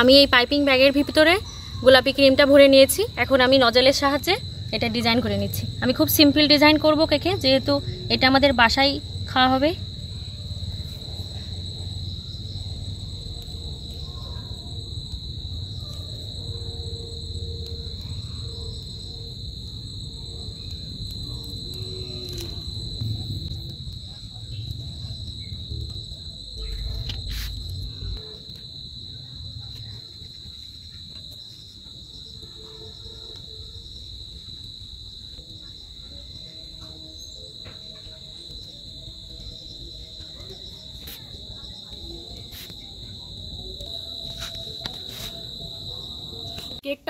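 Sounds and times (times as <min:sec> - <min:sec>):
cricket chirring: 0:00.0 - 0:47.0.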